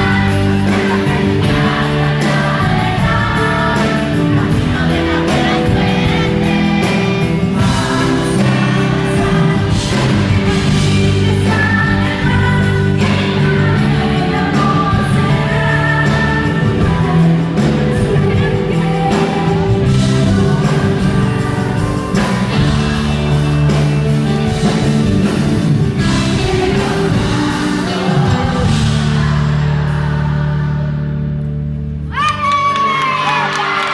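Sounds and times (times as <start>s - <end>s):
woman singing: 0.0s - 31.0s
live pop band: 0.0s - 33.9s.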